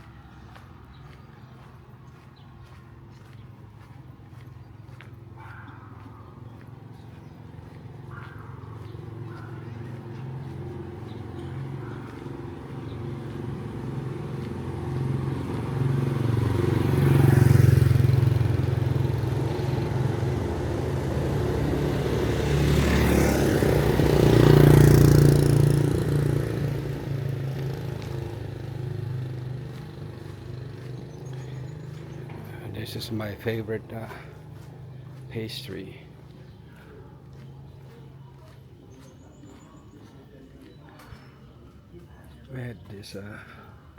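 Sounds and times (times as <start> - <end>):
vehicle engines passing: 0.0 - 43.9.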